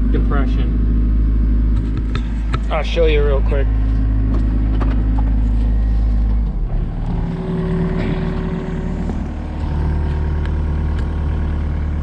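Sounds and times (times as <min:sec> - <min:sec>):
engine droning: 0:00.0 - 0:12.0
steady hum: 0:00.0 - 0:12.0.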